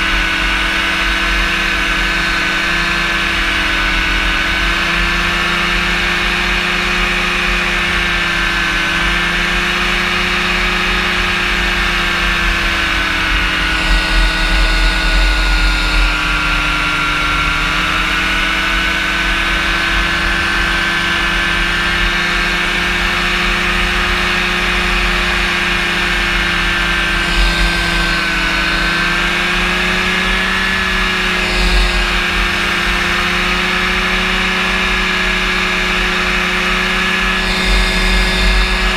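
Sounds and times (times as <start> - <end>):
engine and propeller running: 0.0 - 38.9.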